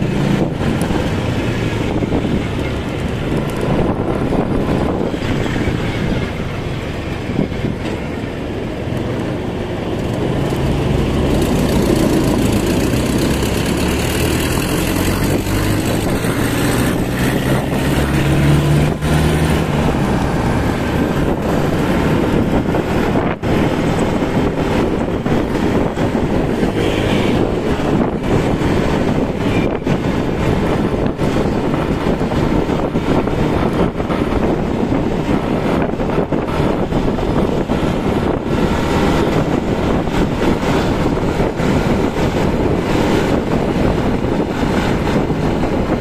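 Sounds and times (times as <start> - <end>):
road noise: 0.0 - 46.0
scooter engine hum: 0.0 - 46.0
wind rushing over microphone: 0.0 - 46.0.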